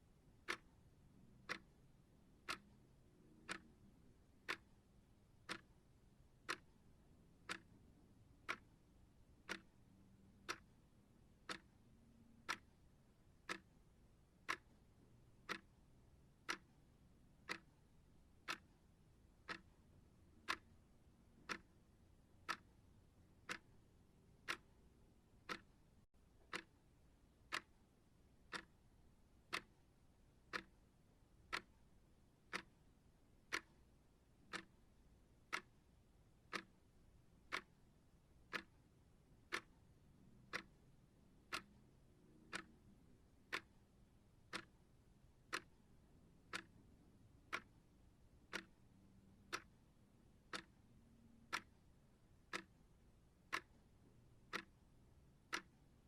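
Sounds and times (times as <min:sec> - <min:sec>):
faint low hum: 0:00.0 - 0:56.0
clock ticking: 0:00.2 - 0:56.0.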